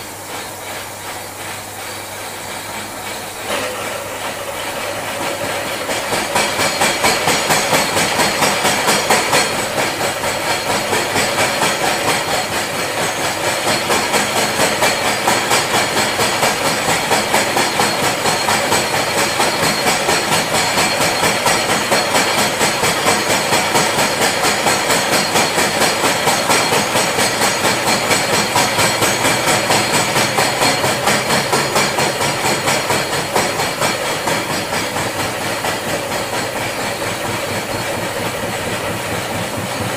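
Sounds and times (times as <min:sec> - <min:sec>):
milling machine cutting metal: 0:00.0 - 0:39.9.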